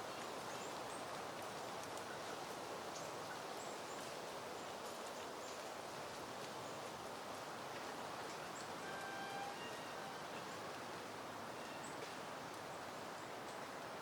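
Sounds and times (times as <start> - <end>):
wind rustling leafy plants: 0.0 - 14.0.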